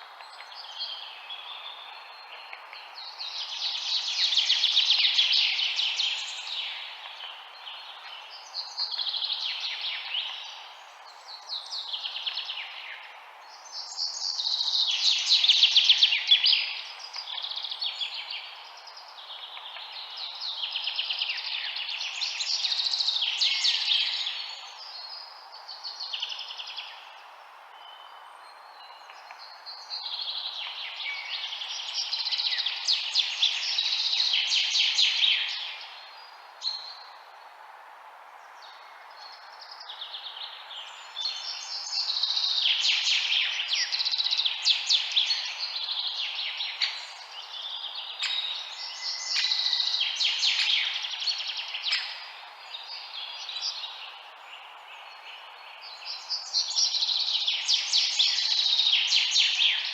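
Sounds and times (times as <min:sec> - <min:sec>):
songbirds chirping and singing: 0:00.0 - 0:37.5, 0:38.4 - 0:59.9
steady background hiss: 0:00.0 - 0:59.9.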